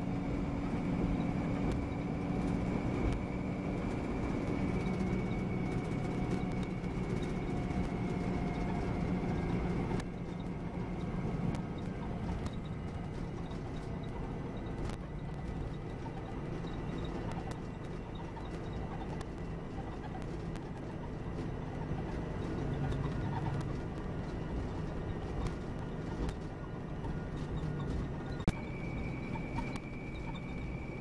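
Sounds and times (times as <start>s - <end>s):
diesel coach engine running: 0.0s - 31.0s
interior rattles and clicks: 0.0s - 31.0s.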